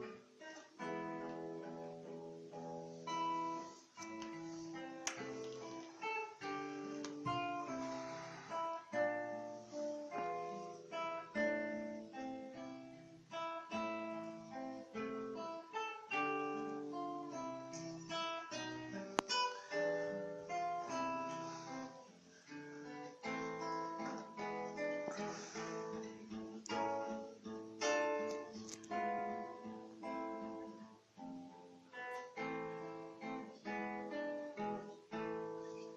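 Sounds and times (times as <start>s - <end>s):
classical guitar fingerpicking: 0.0s - 35.9s.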